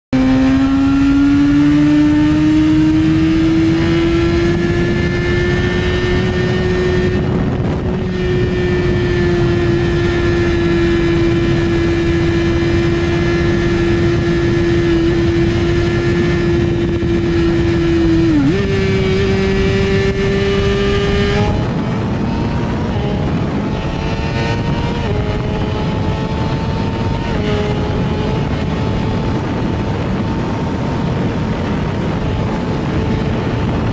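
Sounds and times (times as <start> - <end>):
motorcycle engine at high revs: 0.1 - 33.9
wind noise: 0.1 - 33.9.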